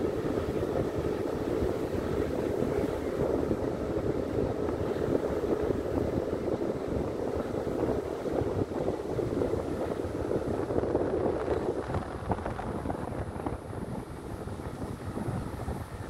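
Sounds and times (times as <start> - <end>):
motorcycle road and engine rumble: 0.0 - 16.0
wind buffeting microphone: 0.0 - 16.0.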